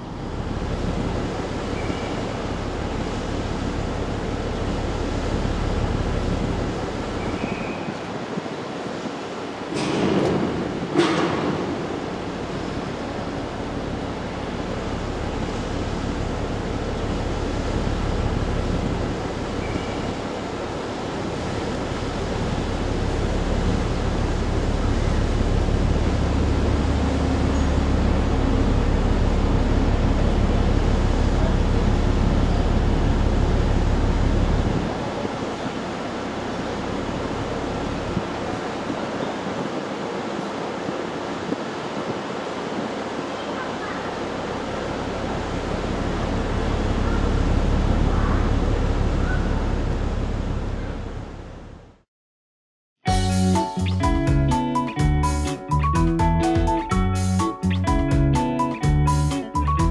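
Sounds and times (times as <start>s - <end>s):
harbour water washing: 0.0s - 51.5s.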